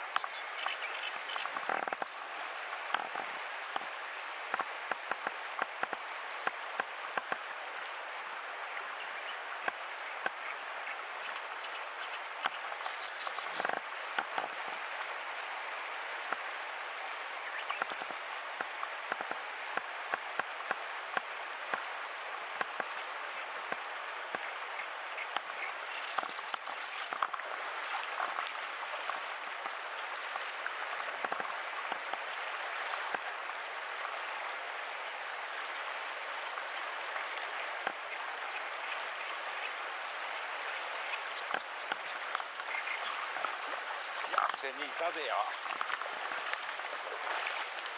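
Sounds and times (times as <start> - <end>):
river rushing over riffle: 0.0 - 47.9
small water splashes: 0.0 - 47.9.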